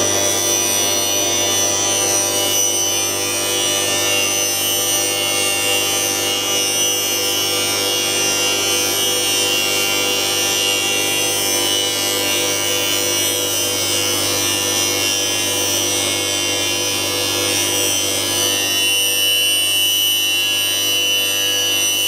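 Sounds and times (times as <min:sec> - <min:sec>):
machine motor whine and hum: 0:00.0 - 0:22.0.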